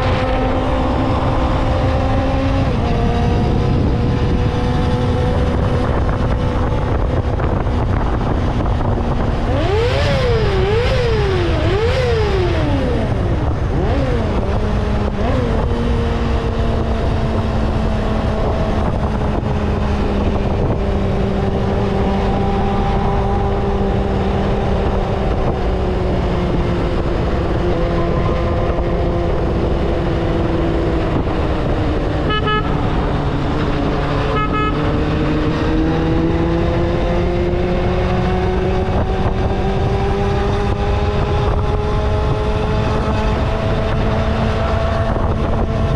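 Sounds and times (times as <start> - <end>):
road and wind noise: 0.0 - 45.9
vehicle engine revving: 0.0 - 45.9.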